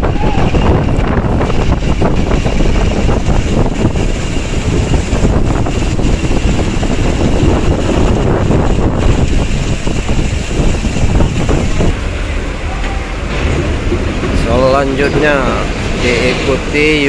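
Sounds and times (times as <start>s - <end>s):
bus diesel engine rumble: 0.0s - 17.0s
wind buffeting microphone: 0.0s - 17.0s.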